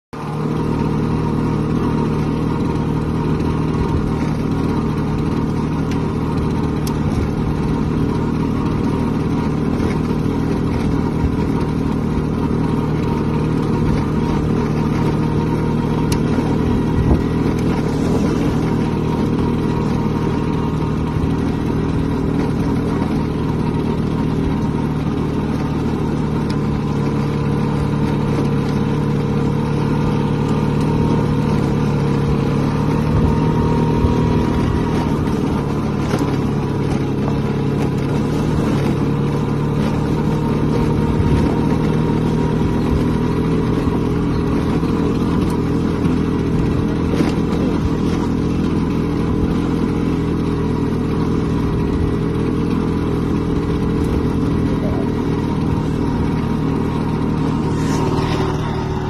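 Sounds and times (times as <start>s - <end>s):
scooter engine running: 0.1s - 59.0s.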